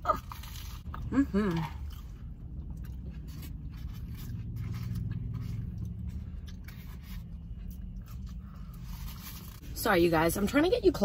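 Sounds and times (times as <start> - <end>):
chewing: 0.0 - 9.6.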